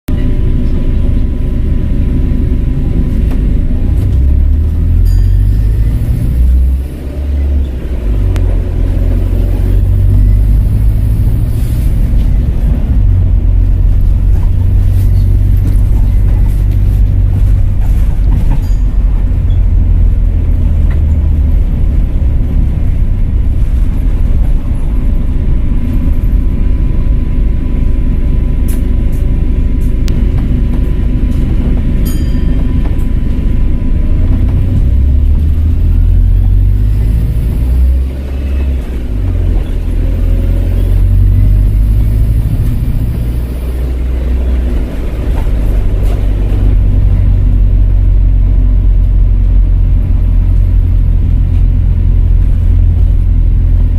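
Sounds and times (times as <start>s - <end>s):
bus engine rumbling: 0.1s - 53.9s.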